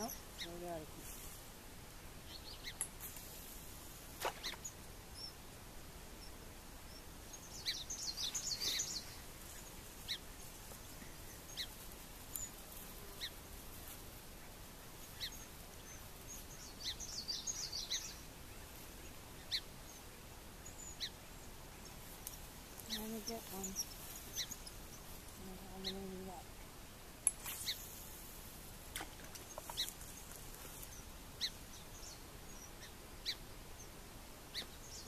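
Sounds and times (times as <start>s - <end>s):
small birds chirping: 0.0s - 1.4s, 2.1s - 5.5s, 6.1s - 35.0s.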